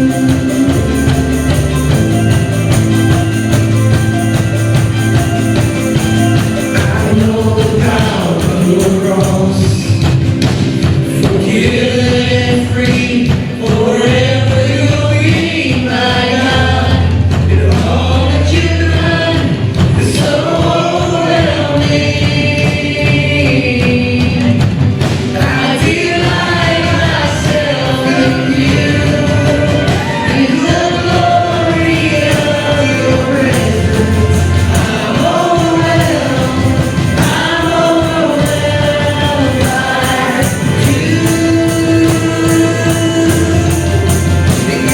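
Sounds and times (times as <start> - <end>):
band playing worship music: 0.0 - 44.9
voices singing: 0.0 - 44.9.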